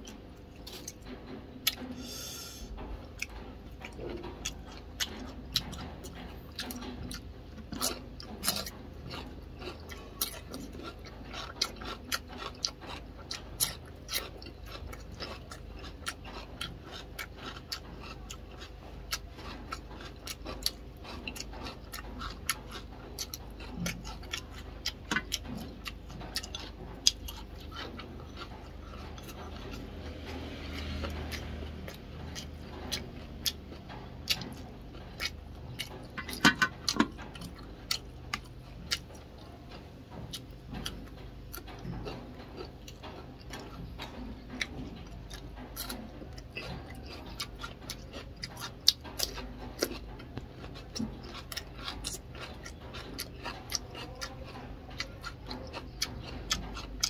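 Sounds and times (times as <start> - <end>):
wet chewing clicks and smacks: 0.0 - 57.0.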